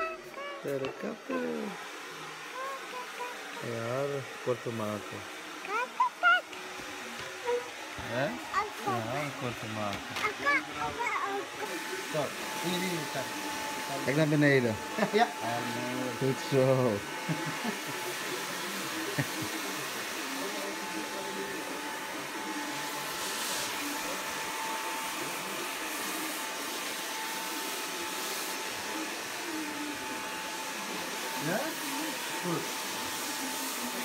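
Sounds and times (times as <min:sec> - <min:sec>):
electric hair clippers whirring: 0:00.0 - 0:34.0
faint voices: 0:00.0 - 0:34.0.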